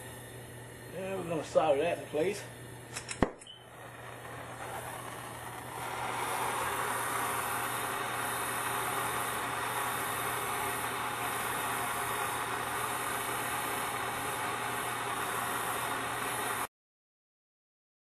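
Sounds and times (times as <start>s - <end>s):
gas torch hissing: 0.0s - 16.7s.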